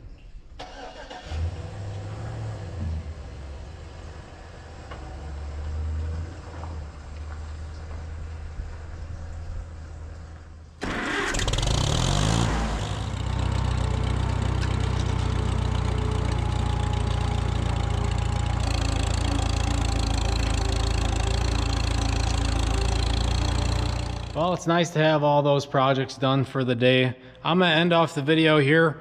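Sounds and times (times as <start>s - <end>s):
tractor engine cranking and running: 0.6s - 25.2s.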